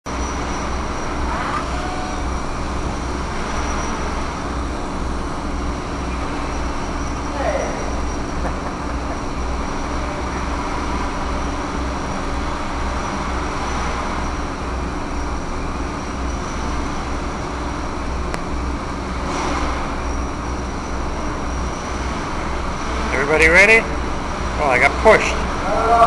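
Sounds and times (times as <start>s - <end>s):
pulsing low hum: 0.1s - 26.0s.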